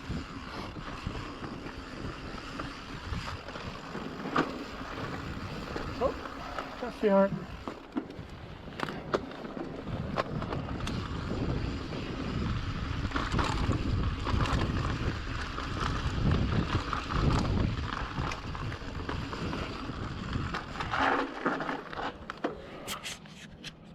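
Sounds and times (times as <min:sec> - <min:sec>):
wind buffeting microphone: 0:00.0 - 0:21.1
mountain bike rolling on trail: 0:00.0 - 0:23.4
bike clicks and rattles: 0:00.0 - 0:23.9.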